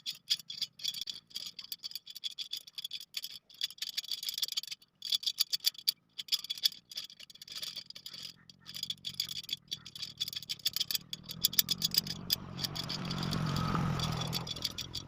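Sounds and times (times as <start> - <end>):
spoke wrench metallic clicking: 0.0 - 15.0.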